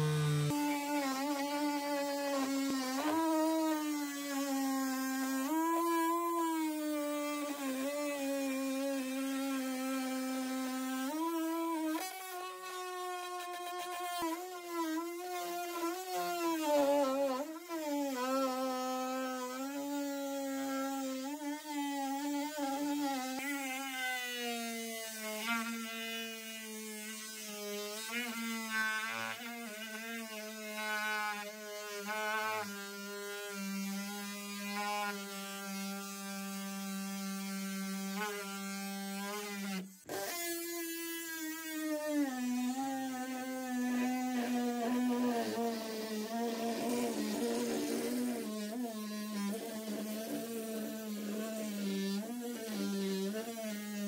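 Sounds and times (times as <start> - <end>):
oscillating multi-tool buzzing: 0.0 - 54.0.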